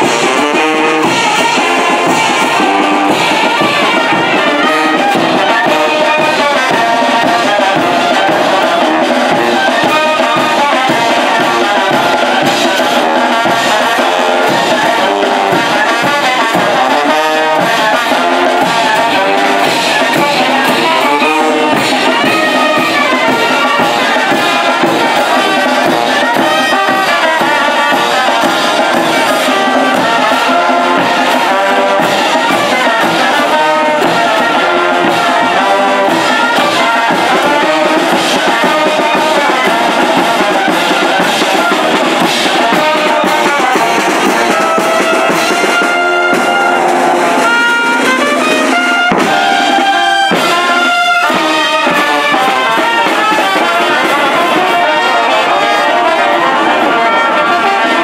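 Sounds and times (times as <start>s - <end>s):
brass band playing loudly: 0.0s - 58.0s
cymbals: 0.0s - 58.0s
snare drum: 0.0s - 58.0s.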